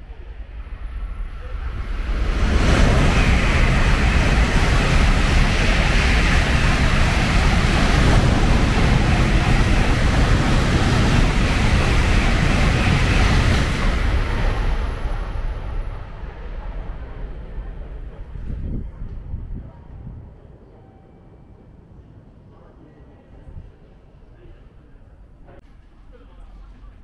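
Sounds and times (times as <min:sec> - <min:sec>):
high-speed train rushing past: 0:00.0 - 0:22.7.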